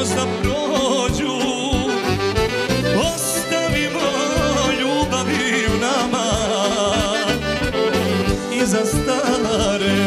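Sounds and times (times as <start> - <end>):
accordion: 0.0 - 10.0
man singing: 0.0 - 10.0
violins: 0.0 - 10.0.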